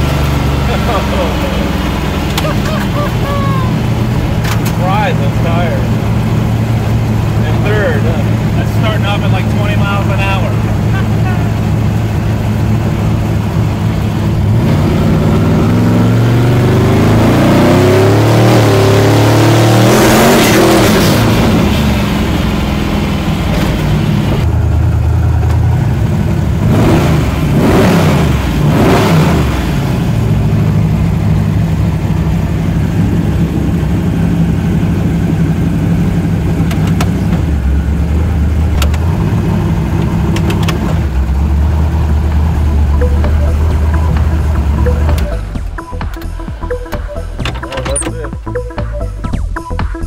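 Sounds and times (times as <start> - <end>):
car engine idling: 0.0 - 17.4, 18.0 - 50.0
car engine revving: 0.0 - 50.0.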